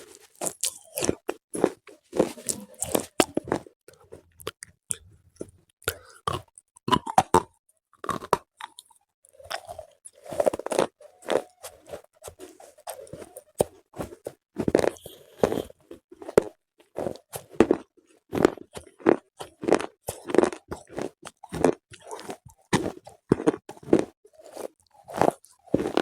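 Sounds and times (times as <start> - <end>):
pencils crunching when bitten: 0.0 - 26.0
wet chewing: 0.0 - 26.0.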